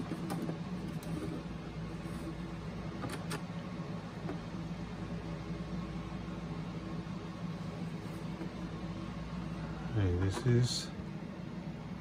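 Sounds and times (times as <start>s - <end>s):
low room hum with hiss: 0.0s - 12.0s.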